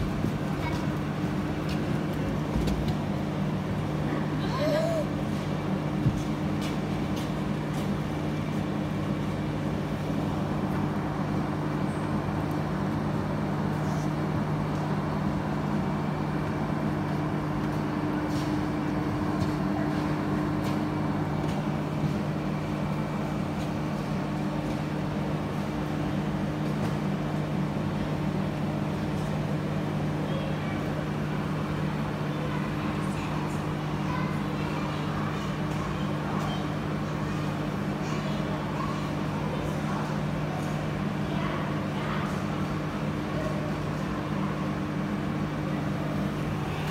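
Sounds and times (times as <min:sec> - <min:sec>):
aquarium pumps humming: 0:00.0 - 0:46.9.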